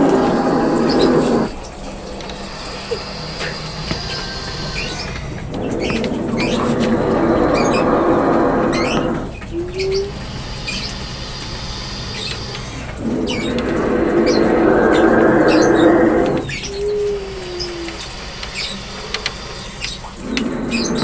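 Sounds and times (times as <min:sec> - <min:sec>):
snake hissing: 0:00.0 - 0:01.6, 0:02.4 - 0:21.0.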